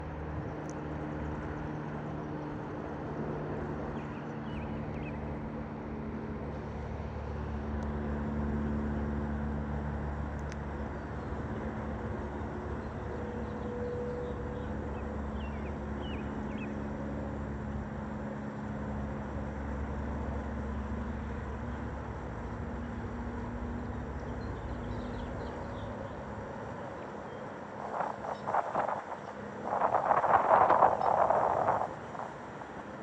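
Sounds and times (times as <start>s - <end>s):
airplane engine drone: 0.0s - 33.0s.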